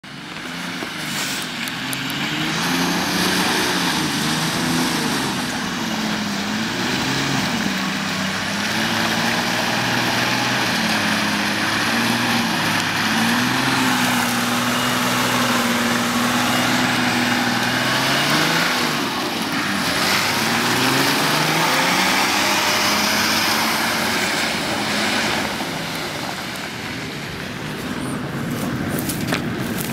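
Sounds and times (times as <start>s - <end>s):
engine revving: 0.0s - 29.9s
constant rushing noise: 0.1s - 29.9s.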